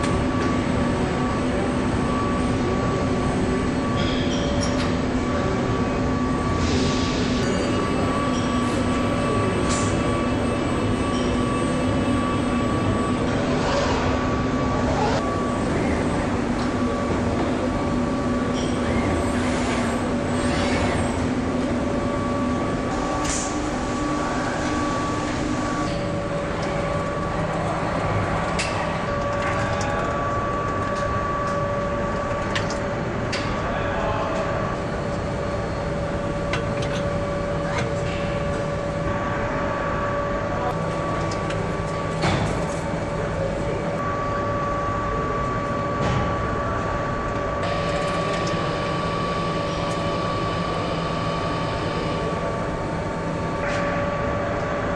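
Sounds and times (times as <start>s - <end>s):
machinery hum and rumble: 0.0s - 54.9s.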